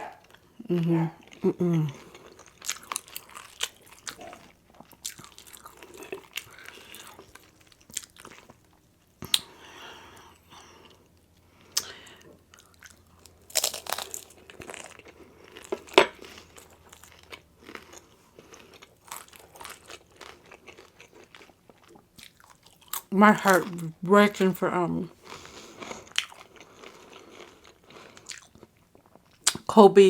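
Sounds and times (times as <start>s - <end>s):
chewing crispy food: 0.1s - 29.7s.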